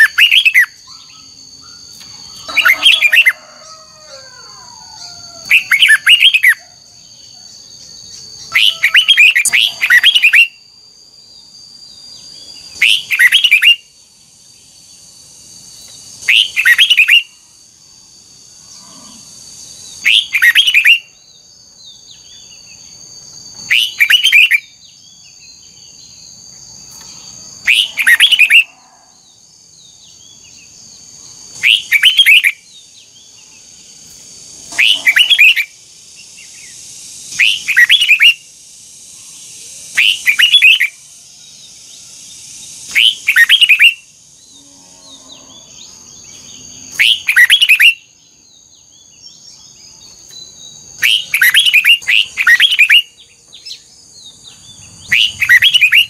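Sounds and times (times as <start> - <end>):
bulbul singing: 0.0 - 3.7, 4.4 - 14.0, 15.8 - 17.5, 19.7 - 21.3, 21.9 - 28.8, 29.8 - 33.7, 34.6 - 38.5, 39.2 - 56.0
steady high-pitched whine: 0.0 - 56.0.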